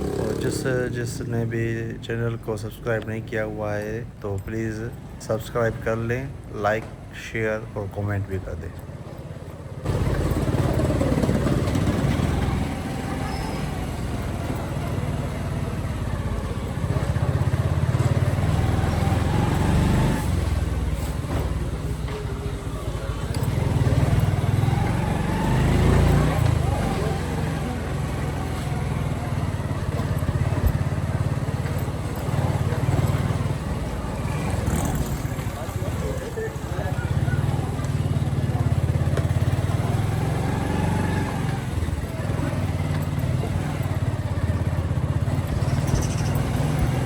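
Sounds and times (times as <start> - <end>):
motorcycle engine running: 0.0 - 2.4, 8.7 - 47.0.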